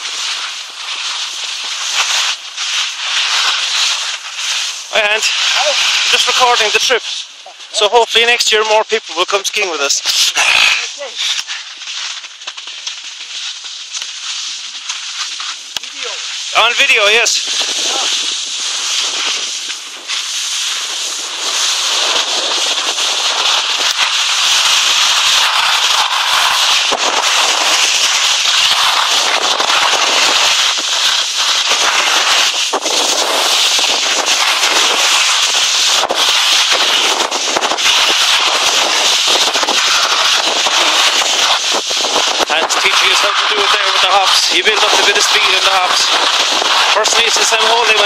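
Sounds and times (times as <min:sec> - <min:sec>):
skis scraping over snow: 0:00.0 - 0:48.0.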